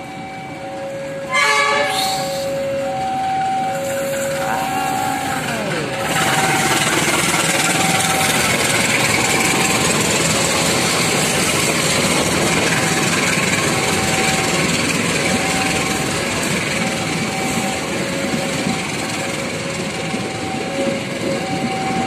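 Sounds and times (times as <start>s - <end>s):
diesel locomotive engine running: 0.0s - 22.0s
train coaches rolling on rails: 0.0s - 22.0s.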